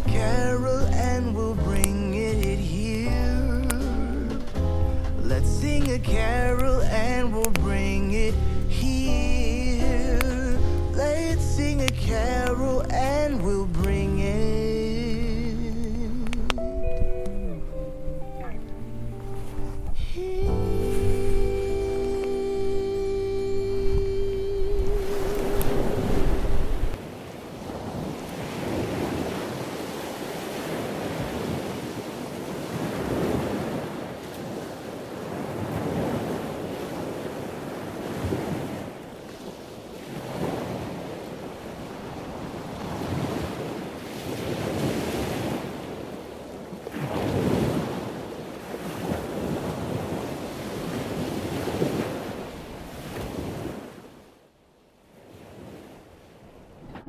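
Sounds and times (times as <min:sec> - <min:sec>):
ocean surf breaking: 0:00.0 - 0:54.4, 0:55.0 - 0:57.0
wind: 0:00.0 - 0:57.0.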